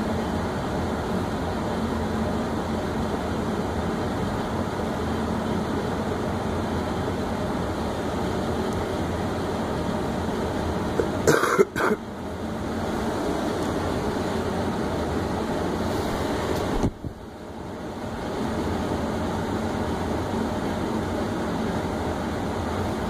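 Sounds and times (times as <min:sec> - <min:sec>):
blower air rush and hum: 0:00.0 - 0:23.0.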